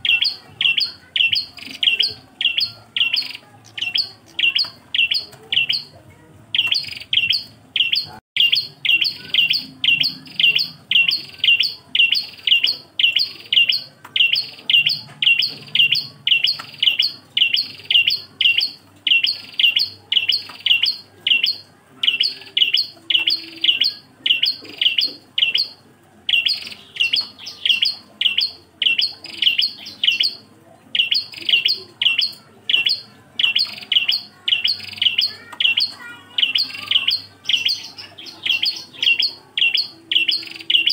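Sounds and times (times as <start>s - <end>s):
bird giving high sharp chirps: 0.0s - 5.9s, 6.5s - 40.9s.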